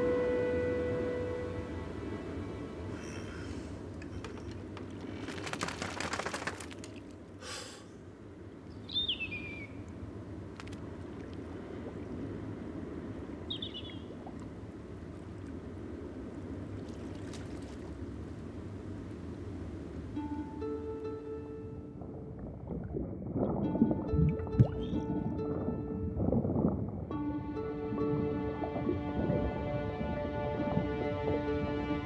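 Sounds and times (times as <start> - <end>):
sea: 0.0 - 32.0
wind: 0.0 - 32.0.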